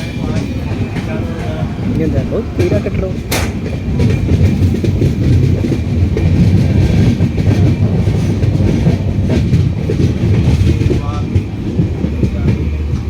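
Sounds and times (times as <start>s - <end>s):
moving train rumble: 0.0s - 13.0s
wheels clacking over rail joints: 0.0s - 13.0s.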